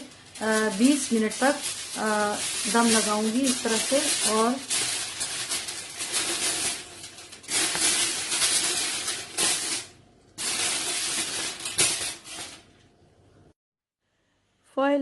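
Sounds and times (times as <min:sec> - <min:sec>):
aluminium foil crinkling: 0:00.0 - 0:12.8.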